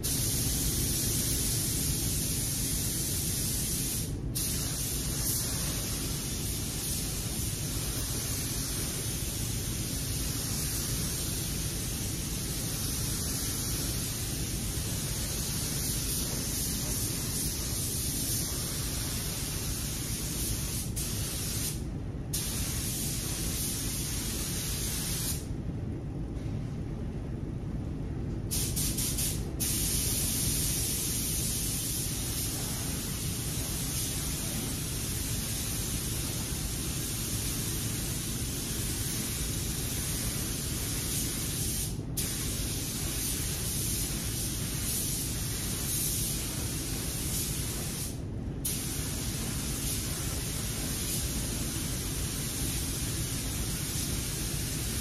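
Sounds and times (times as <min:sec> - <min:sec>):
spray gun hissing: 0:00.0 - 0:25.5, 0:28.5 - 0:55.0.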